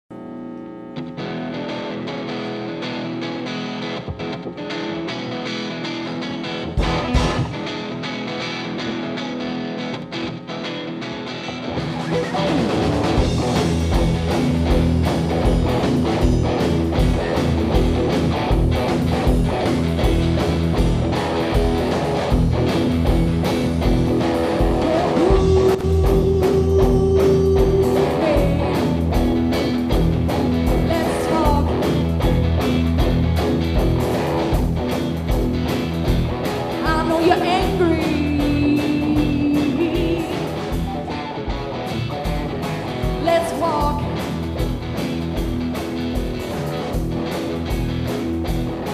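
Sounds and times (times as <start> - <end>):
live rock band playing: 1.0 - 48.9.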